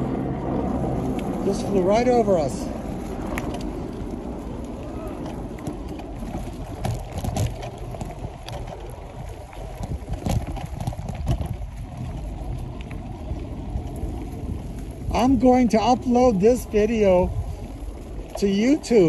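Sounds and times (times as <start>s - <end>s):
bicycle tyres rumbling on dirt: 0.0s - 19.0s
bike rattling over bumps: 0.0s - 19.0s
wind on microphone: 0.0s - 19.0s.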